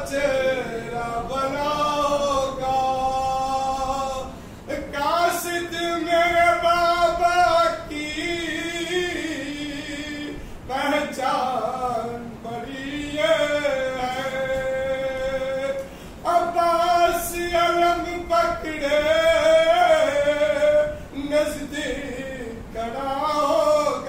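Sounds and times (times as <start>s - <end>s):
man chanting unaccompanied: 0.0s - 24.0s.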